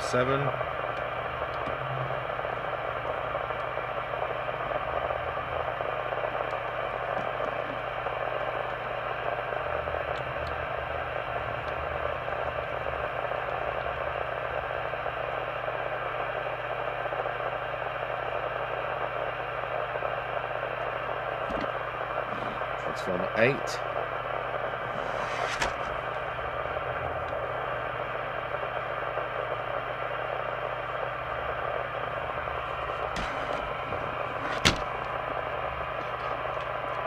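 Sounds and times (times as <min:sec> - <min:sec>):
radio receiver hiss: 0:00.0 - 0:37.0.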